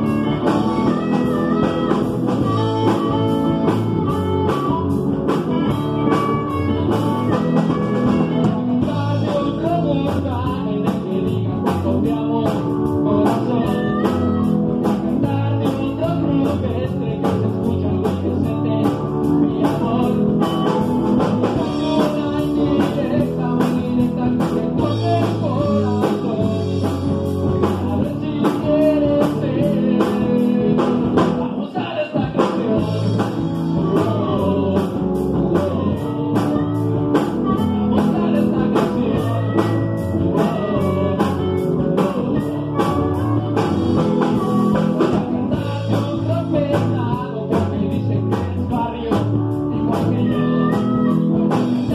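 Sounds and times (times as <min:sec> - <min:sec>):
drum kit: 0:00.0 - 0:51.9
electric bass: 0:00.0 - 0:51.9
electric guitar: 0:00.0 - 0:51.9
person singing into a microphone: 0:00.0 - 0:51.9.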